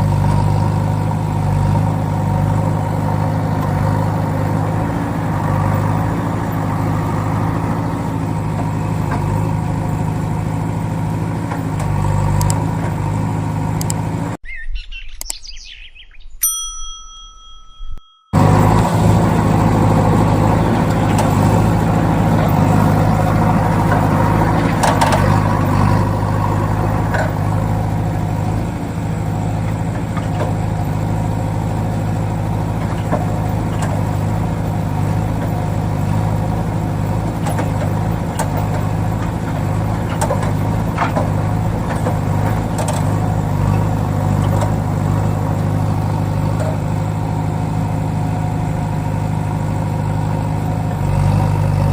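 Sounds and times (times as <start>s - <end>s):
vehicle engine droning: 0.0s - 14.4s, 18.3s - 51.9s.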